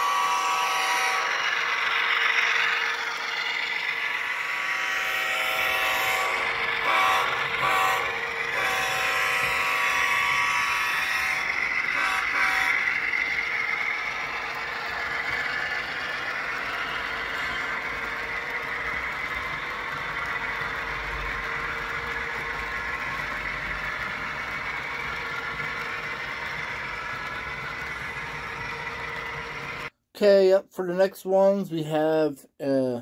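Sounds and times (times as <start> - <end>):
model train humming and rolling: 0.0 - 29.9.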